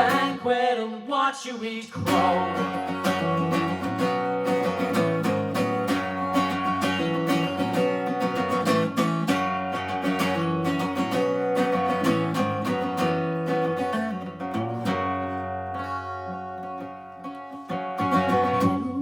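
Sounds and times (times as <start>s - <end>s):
acoustic guitar strumming: 0.0s - 1.0s, 2.0s - 19.0s.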